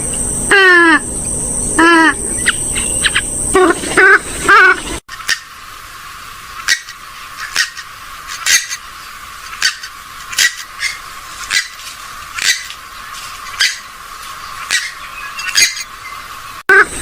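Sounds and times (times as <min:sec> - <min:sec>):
sharp squawk-like bird calls: 0:01.8 - 0:05.6, 0:06.5 - 0:16.9.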